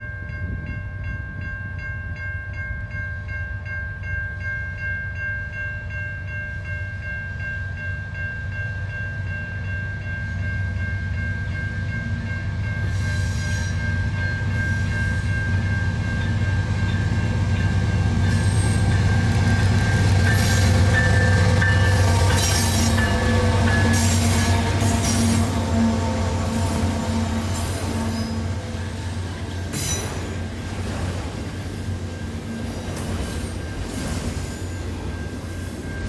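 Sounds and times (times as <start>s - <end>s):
train rumbling: 5.5s - 36.0s.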